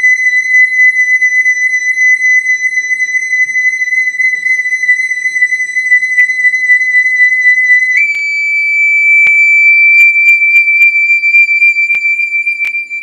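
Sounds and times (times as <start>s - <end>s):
high whistle-like tone: 0.0s - 13.0s.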